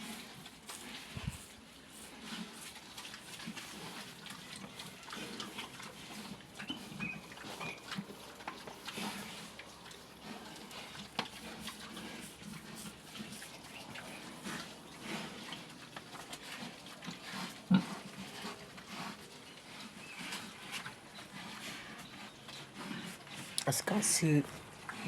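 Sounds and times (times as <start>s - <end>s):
pigs eating: 0.0s - 25.0s
pigs grunting: 2.1s - 25.0s.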